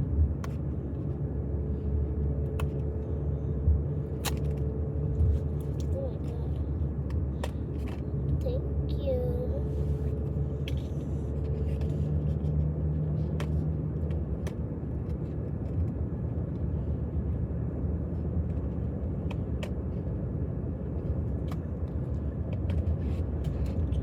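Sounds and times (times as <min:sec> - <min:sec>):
car cabin rumble: 0:00.0 - 0:24.0.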